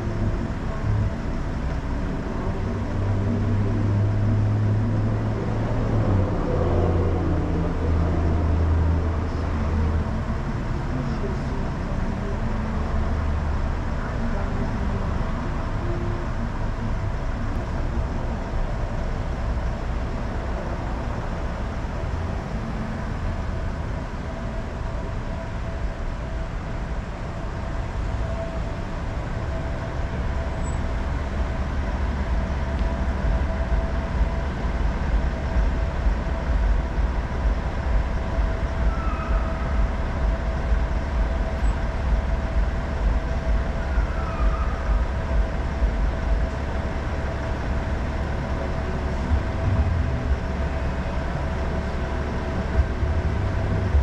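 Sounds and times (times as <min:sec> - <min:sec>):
car engine idling: 0:00.0 - 0:54.0
thin steady hum: 0:00.0 - 0:54.0.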